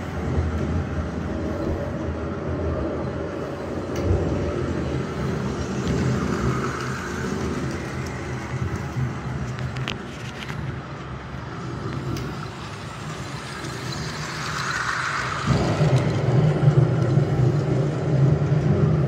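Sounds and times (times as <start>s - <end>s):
model train rumbling whir: 0.0s - 19.0s.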